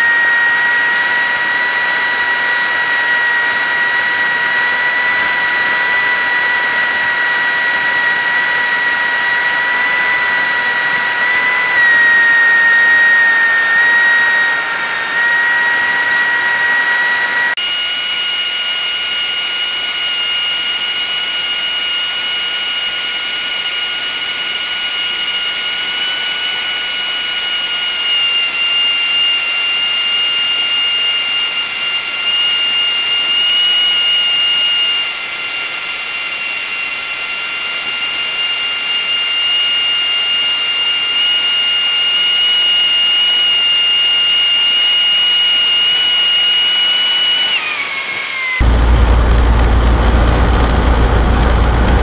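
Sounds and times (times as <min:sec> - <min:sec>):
sped-up aircraft engine whine: 0:00.0 - 0:52.0.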